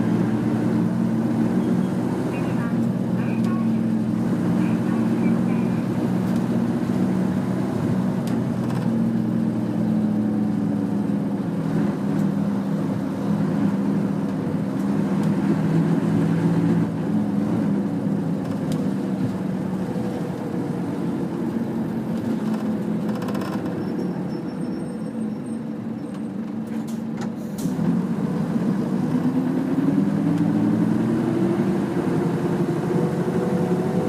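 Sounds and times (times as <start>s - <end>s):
bus diesel engine droning: 0.0s - 34.0s.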